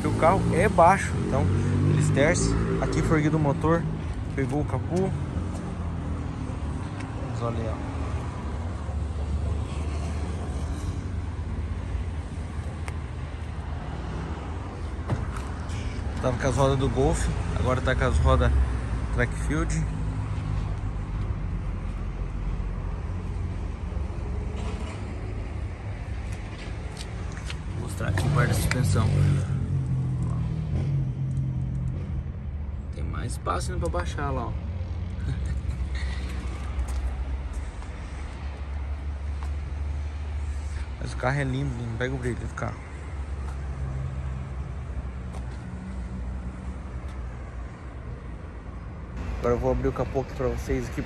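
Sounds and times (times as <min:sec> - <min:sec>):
traffic noise: 0:00.0 - 0:51.0.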